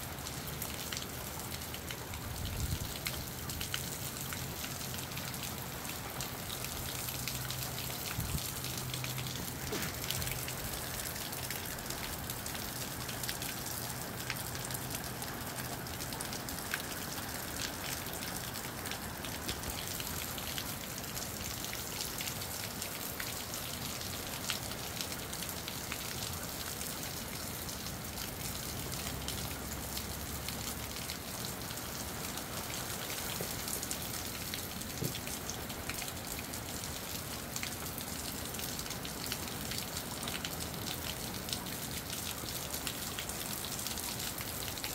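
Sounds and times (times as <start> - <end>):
moderate rain falling: 0.0 - 44.9
raindrops ticking on surfaces: 0.0 - 44.9.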